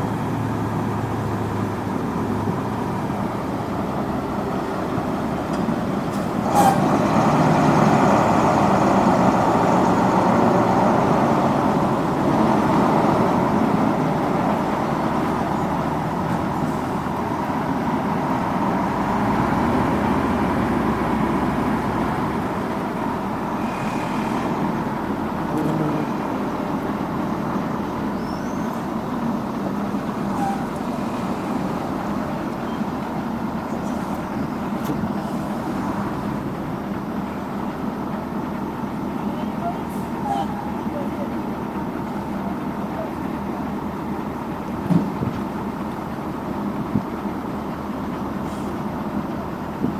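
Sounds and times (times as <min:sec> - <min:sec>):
paving machinery and trucks: 0:00.0 - 0:49.9.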